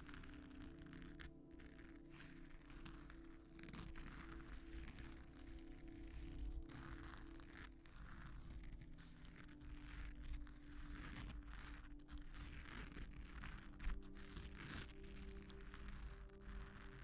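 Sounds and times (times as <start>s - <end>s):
quiet background music: 0.0s - 17.0s
scratching on sequin mat: 0.0s - 17.0s.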